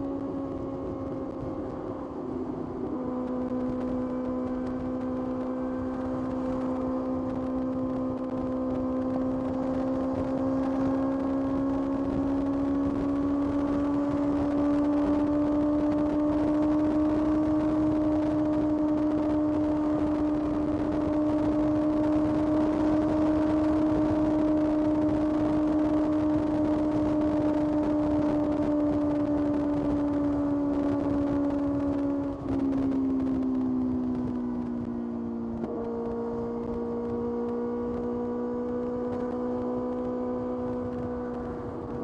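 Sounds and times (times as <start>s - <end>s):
motorcycle engine pulling steadily: 0.0s - 42.0s
road noise: 0.0s - 42.0s
wind noise: 0.0s - 42.0s.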